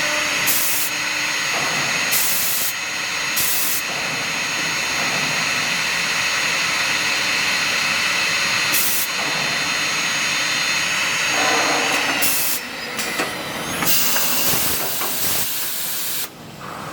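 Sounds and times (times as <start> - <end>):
drilling machine hiss and whine: 0.0 - 16.4.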